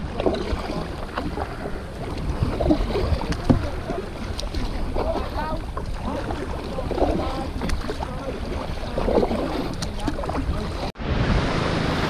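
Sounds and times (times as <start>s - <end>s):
sea sloshing around kayak: 0.0s - 12.0s
waves breaking on shore: 0.0s - 12.0s
wind buffeting microphone: 0.0s - 12.0s.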